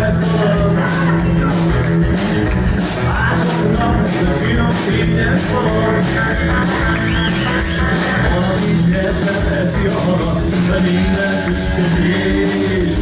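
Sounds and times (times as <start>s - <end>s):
live band playing upbeat music: 0.0s - 13.0s
steady drum beat: 0.0s - 13.0s.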